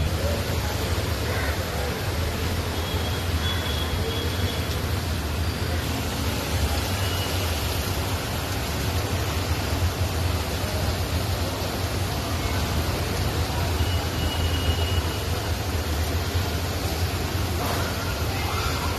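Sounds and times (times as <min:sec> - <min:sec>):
road traffic noise: 0:00.0 - 0:18.9.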